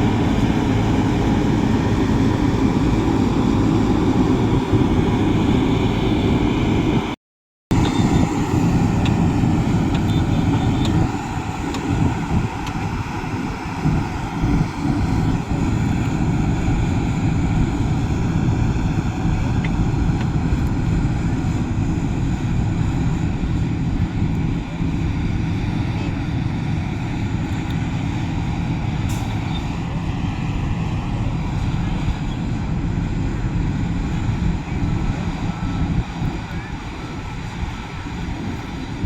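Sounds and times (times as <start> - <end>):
diesel construction machinery rumbling: 0.0 - 39.0.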